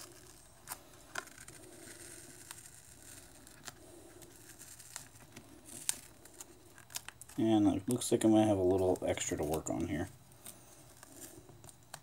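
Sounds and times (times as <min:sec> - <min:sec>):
adhesive coil peeling off plastic: 0:00.0 - 0:12.0.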